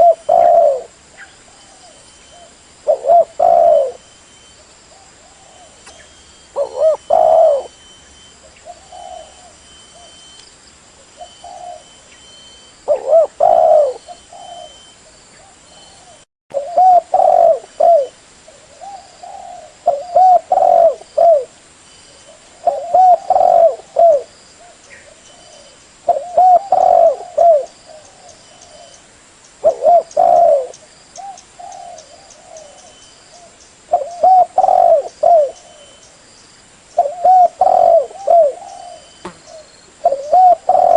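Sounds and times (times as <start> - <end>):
dove cooing: 0.0 - 4.2, 4.9 - 10.3, 11.2 - 21.6, 22.2 - 29.0, 29.6 - 36.0, 37.0 - 40.9.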